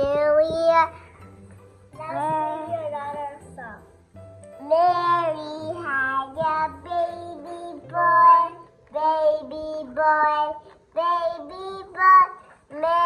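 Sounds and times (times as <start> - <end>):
young child singing: 0.0 - 1.1, 2.0 - 3.8, 4.6 - 13.0
faint background music: 0.0 - 13.0.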